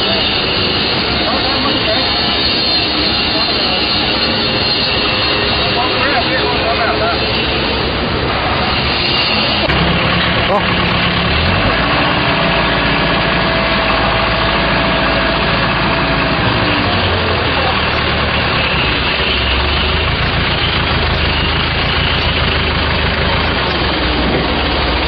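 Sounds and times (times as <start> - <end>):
forklift engine running: 0.0 - 25.0.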